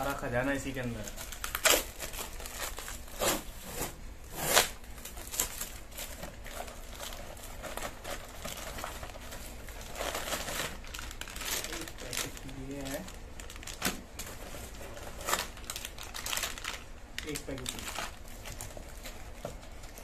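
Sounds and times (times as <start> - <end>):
plastic and paper crinkling: 0.0 - 20.0.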